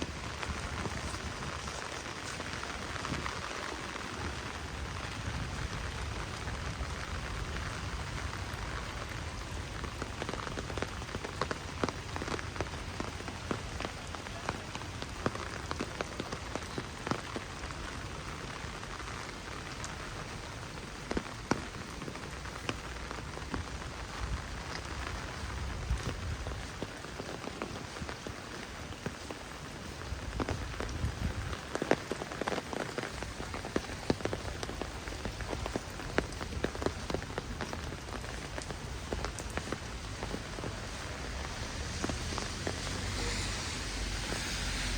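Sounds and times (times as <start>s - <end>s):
heavy rain spattering: 0.0s - 44.9s.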